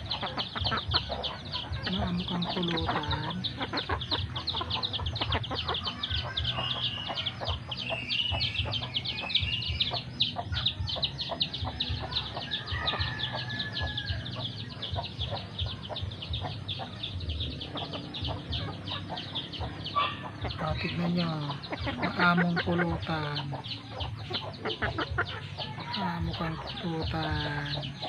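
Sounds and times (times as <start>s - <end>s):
chicken clucking: 0.0s - 28.0s
rapid high chirping: 0.0s - 28.0s.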